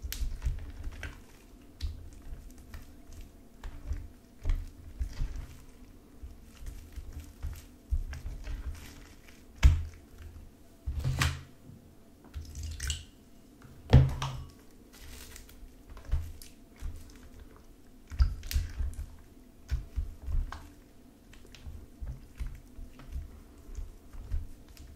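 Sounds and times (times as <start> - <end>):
wet slime squelching: 0.0 - 11.4, 12.3 - 24.9.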